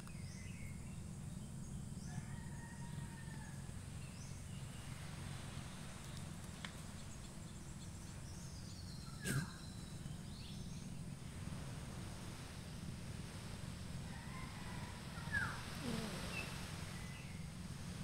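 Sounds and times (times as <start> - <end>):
birds calling faintly: 0.0 - 18.0
low outdoor rumble: 0.0 - 18.0.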